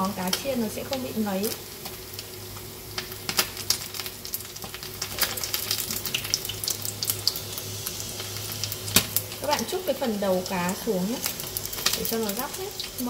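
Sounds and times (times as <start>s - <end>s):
fish deep-frying in oil: 0.0s - 13.0s
crackles and pops: 0.1s - 7.6s, 8.2s - 13.0s.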